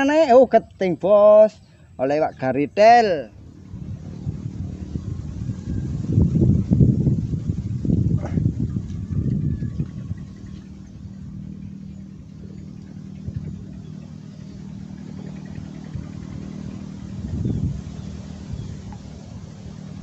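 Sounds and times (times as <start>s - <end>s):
low rumble: 0.6s - 20.0s
small engine humming: 3.3s - 20.0s.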